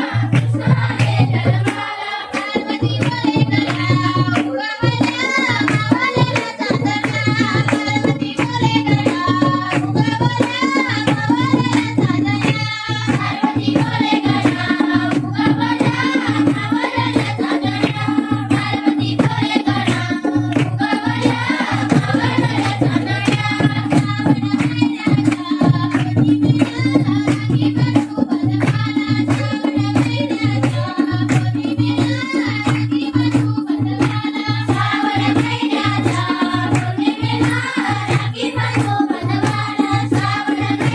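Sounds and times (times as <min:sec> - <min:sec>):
hand drum rhythm: 0:00.0 - 0:40.9.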